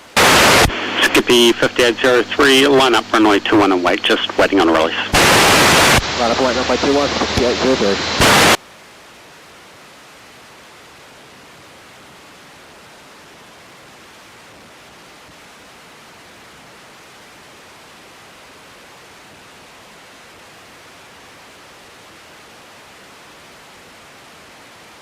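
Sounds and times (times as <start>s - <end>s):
steady even hiss: 0.1s - 25.0s.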